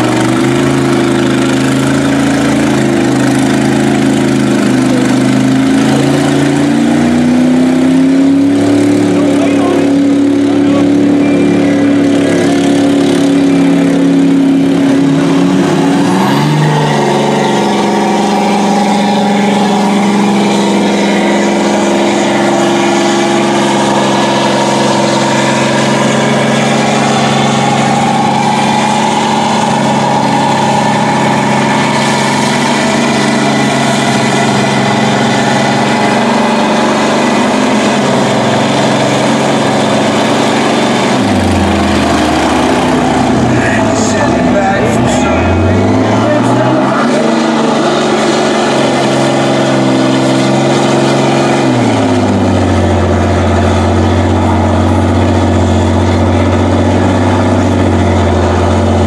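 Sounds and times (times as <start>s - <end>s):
truck engines revving high: 0.0s - 59.0s
trucks churning through mud: 0.0s - 59.0s.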